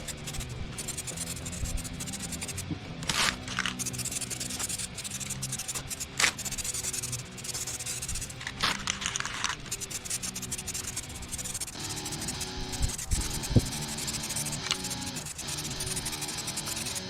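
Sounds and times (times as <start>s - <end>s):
rubbing scraping strokes: 0.0s - 17.0s.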